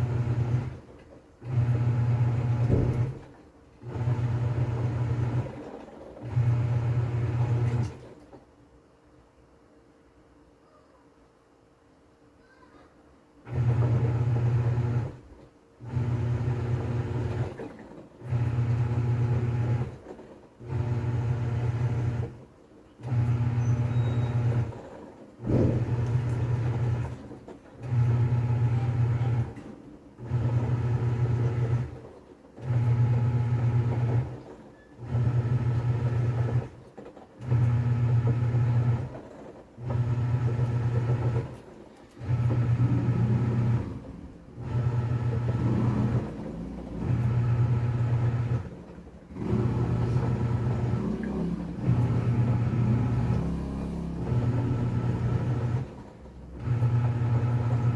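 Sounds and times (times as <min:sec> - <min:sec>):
washing machine motor humming: 0:00.0 - 0:08.3, 0:13.4 - 0:36.8, 0:37.4 - 0:57.9.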